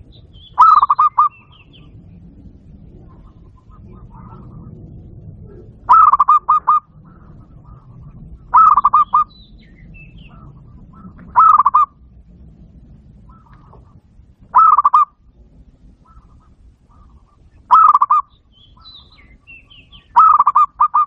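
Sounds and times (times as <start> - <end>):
dove cooing: 0.0 - 12.0, 13.1 - 15.2, 15.9 - 21.0
faint bird calls: 0.0 - 12.0, 13.2 - 15.3, 15.9 - 21.0.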